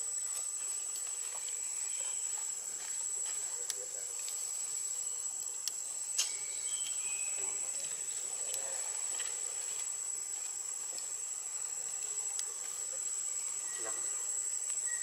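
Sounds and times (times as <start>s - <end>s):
insects droning: 0.0s - 15.0s
faint chirps: 0.9s - 9.3s, 10.9s - 15.0s.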